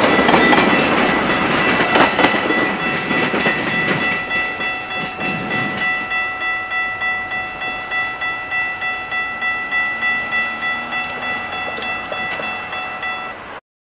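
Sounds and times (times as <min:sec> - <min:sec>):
crossing bell ringing: 0:00.0 - 0:13.6.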